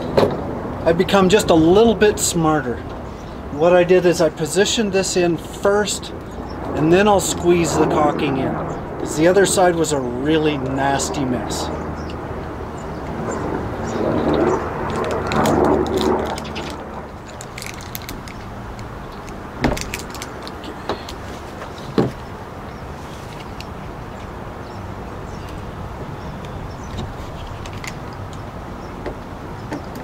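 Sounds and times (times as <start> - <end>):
rush of noise: 0.0 - 28.7
steady background noise: 0.0 - 30.0.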